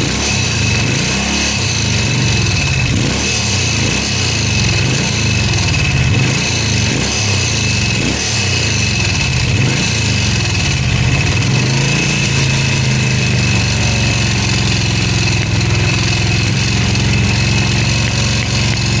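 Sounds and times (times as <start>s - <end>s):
high-pitched whine: 0.0s - 19.0s
motorcycle engine idling: 0.0s - 19.0s.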